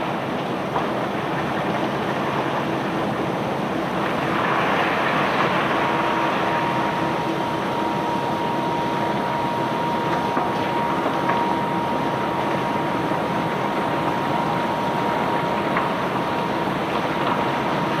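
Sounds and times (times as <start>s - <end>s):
thin steady whine: 2.7s - 18.0s.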